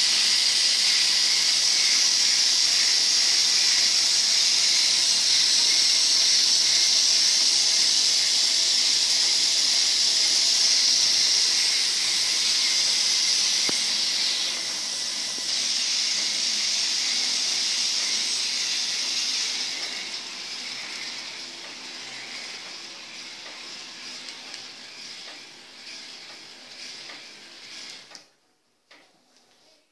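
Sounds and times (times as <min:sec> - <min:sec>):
small electric motors whirring: 0:00.0 - 0:28.3.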